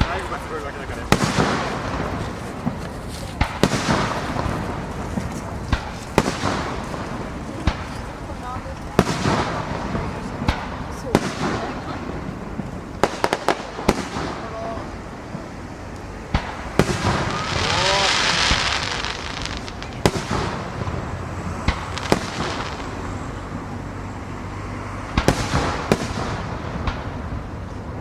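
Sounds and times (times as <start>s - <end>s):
fireworks hiss: 0.0s - 23.8s
fireworks bursting with bangs: 0.0s - 28.0s.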